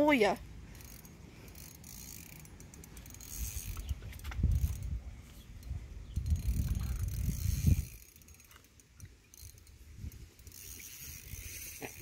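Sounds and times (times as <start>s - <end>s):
fishing reel drag buzzing: 0.0s - 12.0s.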